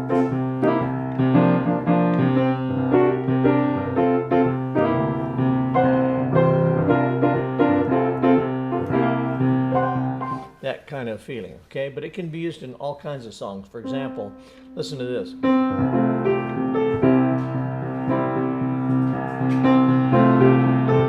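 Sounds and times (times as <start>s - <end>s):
piano chords over bass note: 0.0s - 10.5s, 13.8s - 21.0s.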